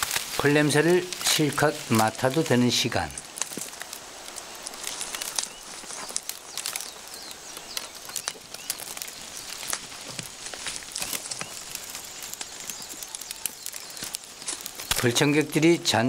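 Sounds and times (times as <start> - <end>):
sharp snaps and clicks: 0.0 - 15.6
dry stalks rustling against fur: 0.0 - 16.0.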